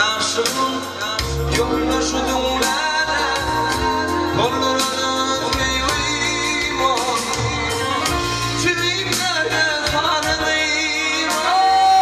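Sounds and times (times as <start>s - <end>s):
keyboard accompaniment: 0.0s - 12.0s
man singing into a microphone: 0.0s - 12.0s.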